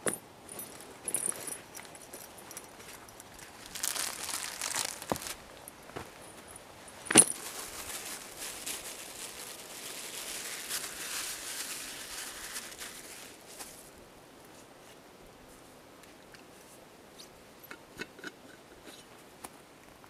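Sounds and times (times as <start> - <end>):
camping gear rustling: 0.0 - 17.3.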